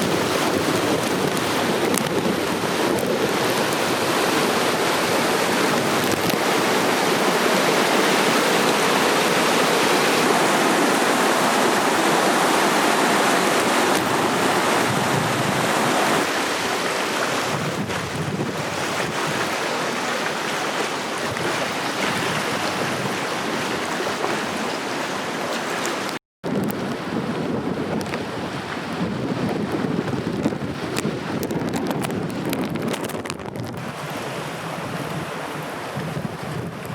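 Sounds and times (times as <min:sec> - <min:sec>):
floodwater rushing: 0:00.0 - 0:36.9.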